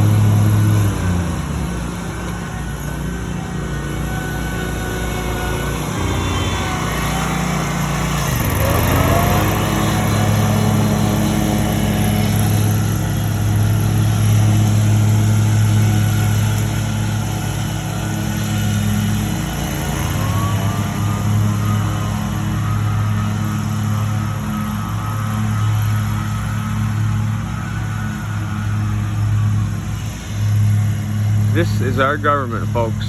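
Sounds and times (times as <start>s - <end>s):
engine revving up: 0.0s - 33.0s
small gasoline engines running: 0.0s - 33.0s.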